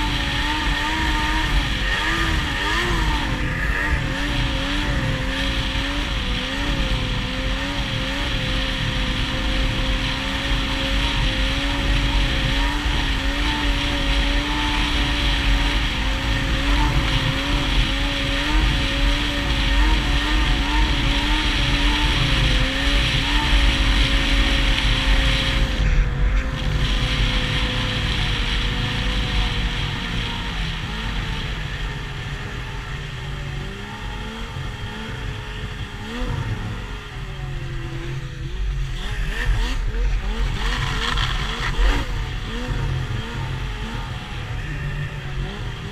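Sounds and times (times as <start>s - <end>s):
snowmobile engine running: 0.0s - 45.9s
wind noise: 0.0s - 45.9s.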